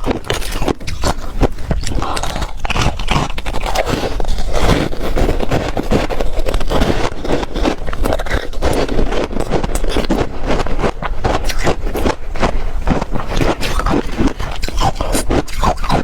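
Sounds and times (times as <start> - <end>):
crunching and chewing ice: 0.0 - 16.0.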